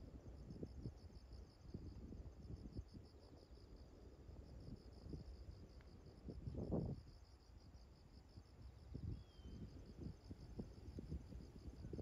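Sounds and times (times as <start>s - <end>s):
insects trilling: 0.5s - 12.0s.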